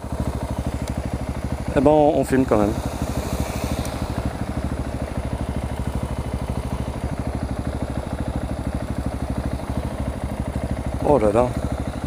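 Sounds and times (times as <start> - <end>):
motorcycle engine thumping: 0.0 - 12.0.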